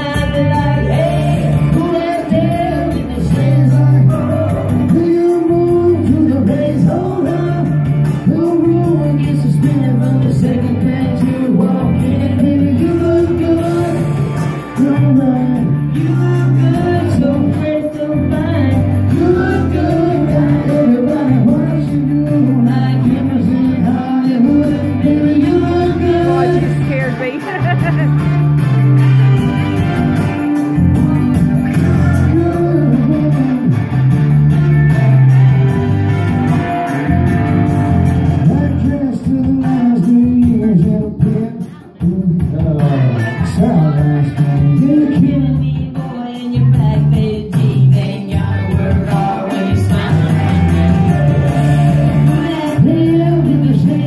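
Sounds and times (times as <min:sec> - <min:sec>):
man singing into a microphone: 0:00.0 - 0:28.2, 0:31.7 - 0:34.3, 0:38.1 - 0:54.0
amplified music with bass line: 0:00.0 - 0:54.0.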